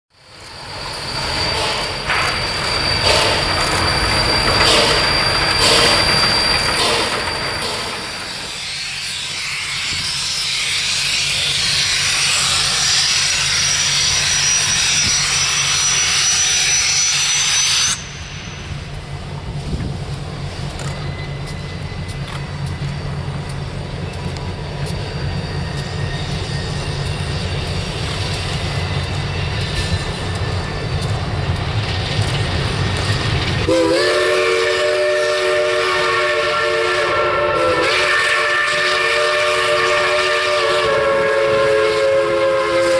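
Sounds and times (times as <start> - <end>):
steam chime whistle: 0.2 - 19.0, 20.8 - 31.2, 33.0 - 42.9
steam hissing: 0.2 - 42.9.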